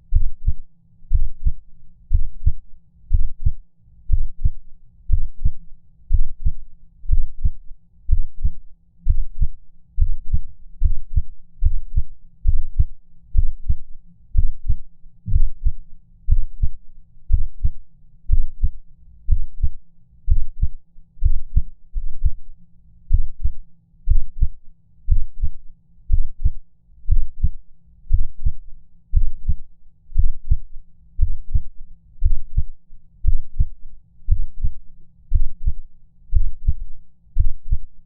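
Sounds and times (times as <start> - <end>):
heartbeat thuds: 0.1 - 13.8, 14.4 - 22.5, 23.1 - 29.6, 30.2 - 37.9.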